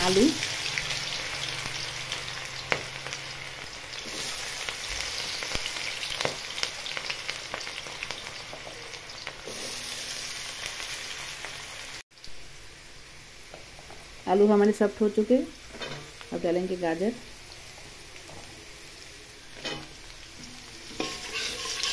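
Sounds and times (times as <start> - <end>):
potatoes sizzling in hot oil: 0.0 - 21.9.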